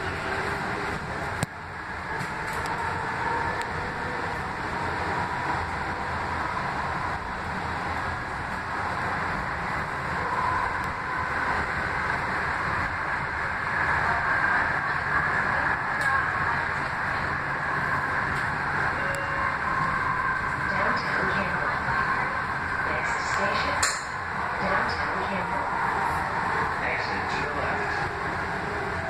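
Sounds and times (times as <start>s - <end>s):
faint whine: 0.0s - 29.0s
light rail rolling noise: 0.0s - 29.0s.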